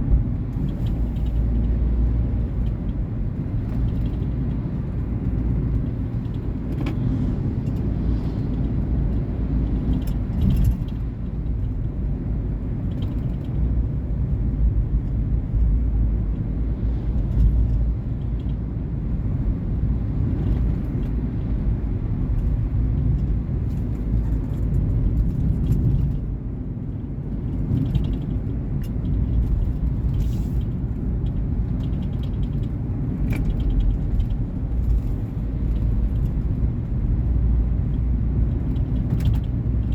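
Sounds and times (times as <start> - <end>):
road rumble: 0.0 - 39.9.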